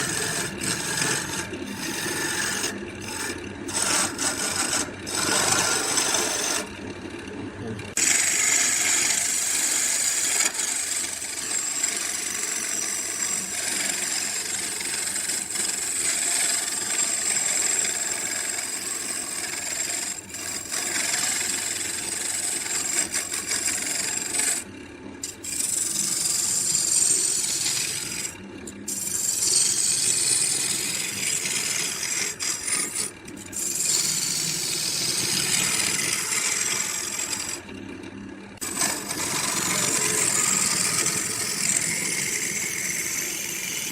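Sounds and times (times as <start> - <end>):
rasp scraping wood: 0.0 - 6.7, 7.9 - 24.6, 25.2 - 37.6, 38.6 - 43.9.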